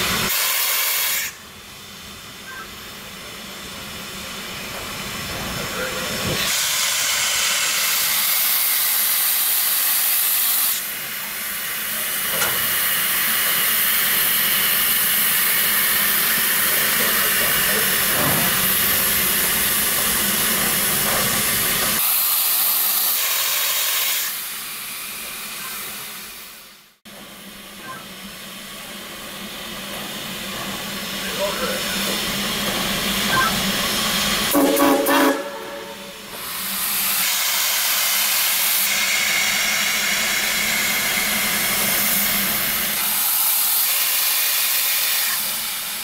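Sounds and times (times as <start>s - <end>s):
steam locomotive venting steam: 0.0s - 46.0s.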